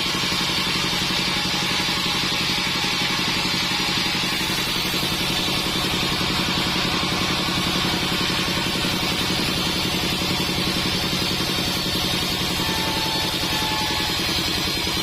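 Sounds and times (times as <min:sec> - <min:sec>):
band saw machinery droning: 0:00.0 - 0:15.0.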